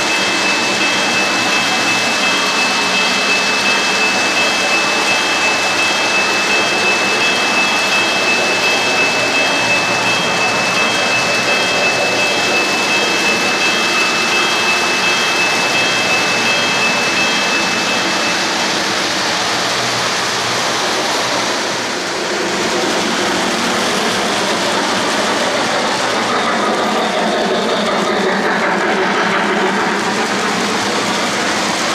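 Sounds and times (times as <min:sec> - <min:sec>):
thin high steady tone: 0:00.0 - 0:25.8
model trains rumbling on track: 0:00.0 - 0:31.9.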